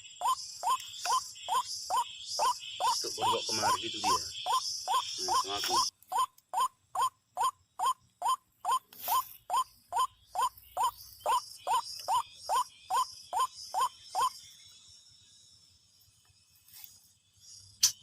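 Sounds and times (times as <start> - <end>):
faint insects buzzing: 0.0 - 18.0.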